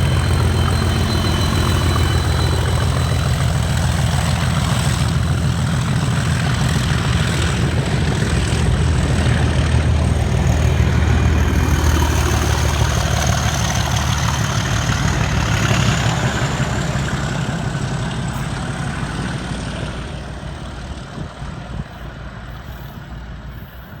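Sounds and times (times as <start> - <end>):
diesel engine throbbing: 0.0 - 24.0.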